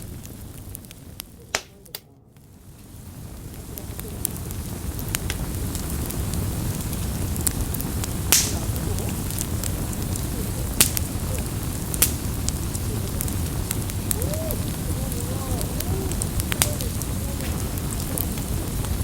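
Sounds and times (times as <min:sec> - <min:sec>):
burning wood crackling and popping: 0:00.0 - 0:19.0
campfire burning: 0:00.0 - 0:19.0.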